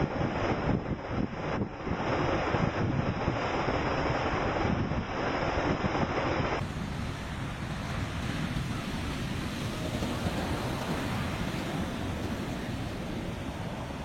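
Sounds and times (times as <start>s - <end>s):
heavy surf: 0.0s - 14.0s
wind buffeting microphone: 0.0s - 14.0s.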